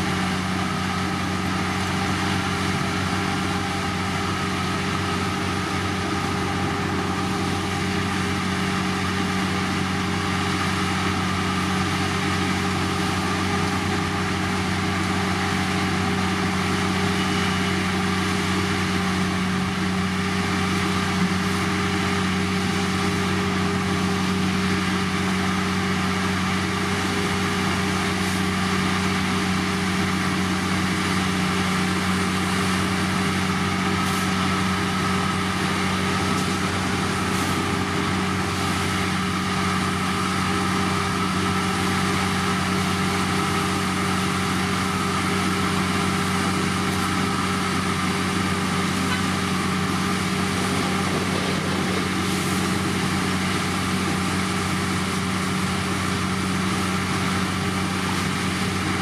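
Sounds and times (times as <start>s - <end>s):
diesel engine running steadily: 0.0s - 59.0s.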